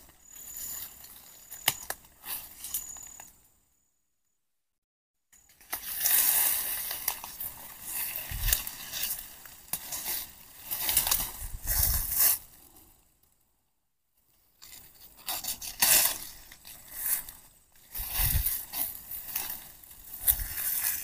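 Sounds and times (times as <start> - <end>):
rustling in dry leaves: 0.1 - 3.3, 5.4 - 12.9, 14.5 - 21.0.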